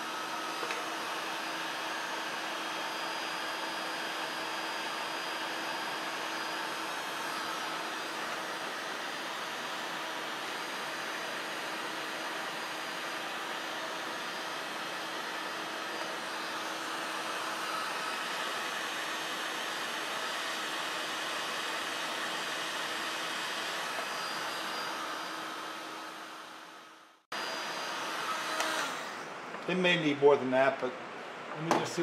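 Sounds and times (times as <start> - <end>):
heat gun blowing: 0.0 - 29.4.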